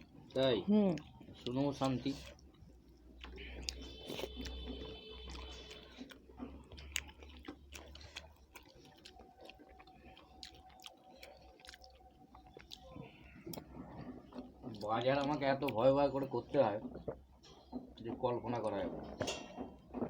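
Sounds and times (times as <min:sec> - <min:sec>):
chewing and eating: 0:00.0 - 0:20.0.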